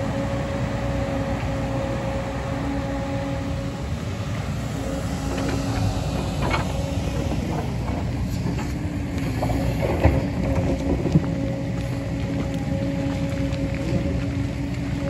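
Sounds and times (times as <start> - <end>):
constant whine: 0.0 - 15.0
excavator diesel engine: 0.0 - 15.0.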